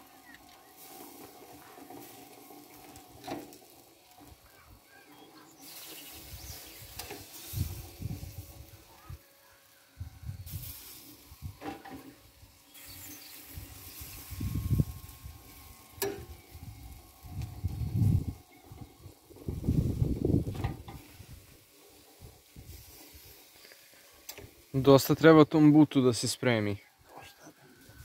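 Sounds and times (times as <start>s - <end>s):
fat sizzling on hot charcoal: 0.0s - 28.0s.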